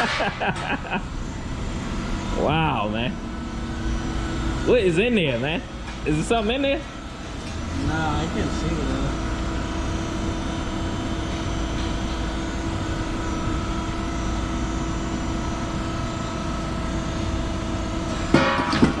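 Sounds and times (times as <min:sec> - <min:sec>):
machine drone: 0:00.0 - 0:19.0.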